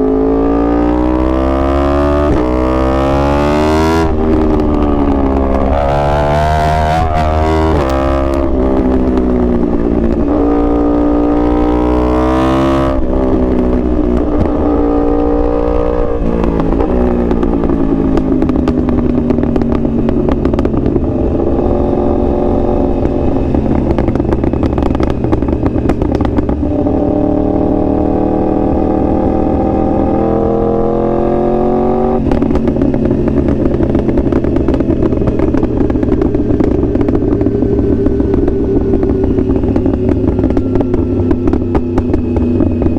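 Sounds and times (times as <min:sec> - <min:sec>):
low rumble: 0:00.0 - 0:42.9
motorcycle engine accelerating: 0:00.0 - 0:42.9.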